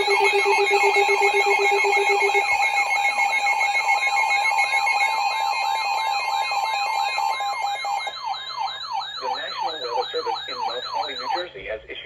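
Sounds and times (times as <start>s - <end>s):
pulsing low beep: 0.0s - 11.4s
siren-like sweeping alarm tone: 0.0s - 11.6s
steady alarm tone: 0.0s - 11.6s.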